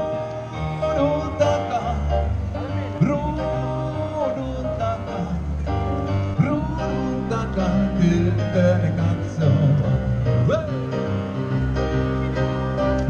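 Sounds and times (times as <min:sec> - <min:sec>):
man singing: 0:00.0 - 0:11.5.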